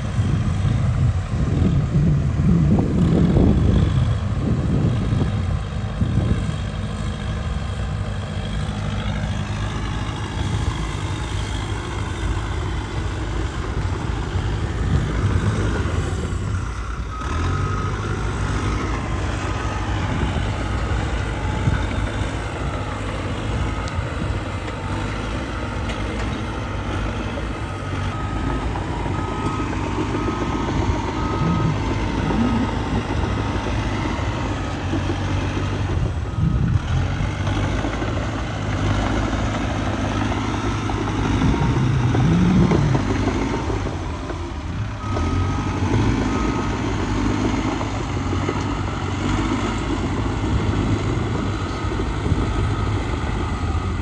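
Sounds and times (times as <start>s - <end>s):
bulldozer diesel engine working: 0.0s - 54.0s
reversing alarm beeping: 10.0s - 54.0s.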